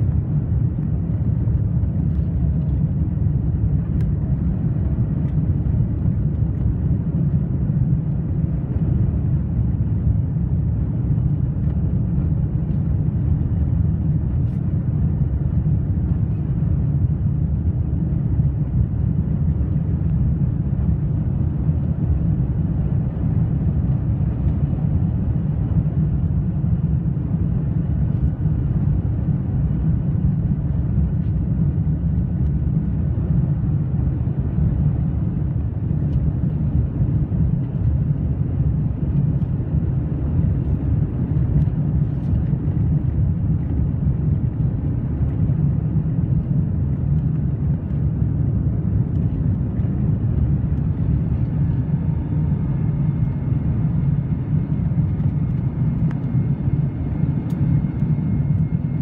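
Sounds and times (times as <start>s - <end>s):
aircraft engine noise: 0.0s - 59.0s.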